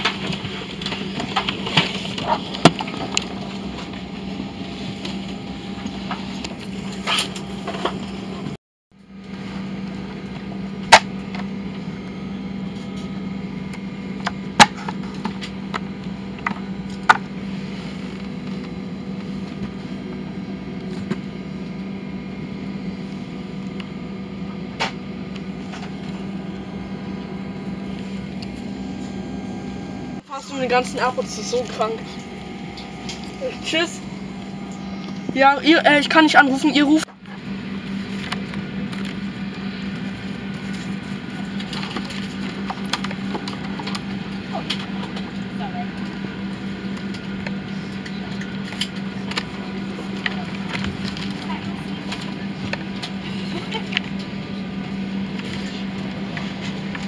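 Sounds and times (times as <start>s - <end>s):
cabin air-conditioning hum: 0.0s - 57.0s.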